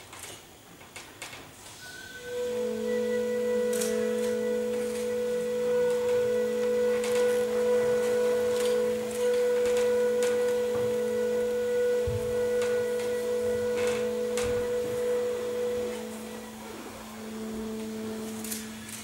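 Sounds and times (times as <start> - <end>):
musical drone: 1.8 - 19.0.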